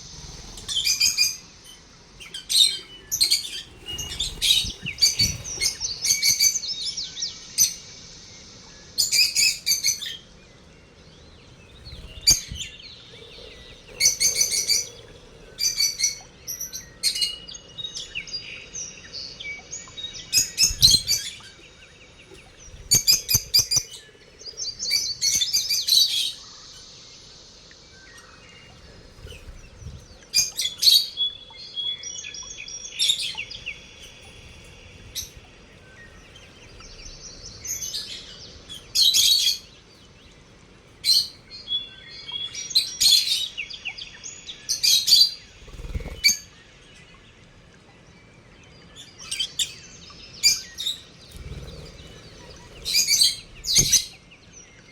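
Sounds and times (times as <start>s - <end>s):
lovebirds chirping: 0.0s - 54.9s.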